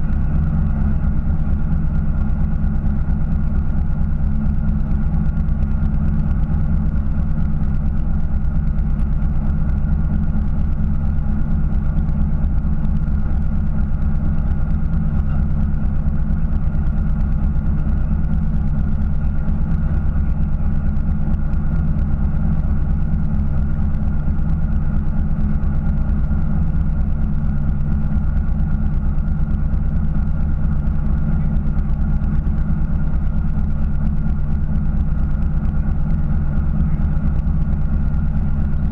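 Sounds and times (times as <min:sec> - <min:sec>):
boat engine idling: 0:00.0 - 0:38.9.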